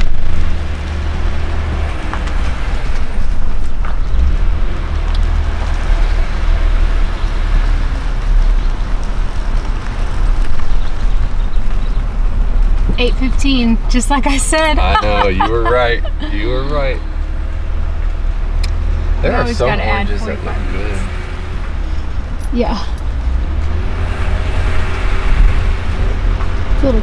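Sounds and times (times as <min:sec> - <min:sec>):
vehicle engine rumble: 0:00.0 - 0:27.0.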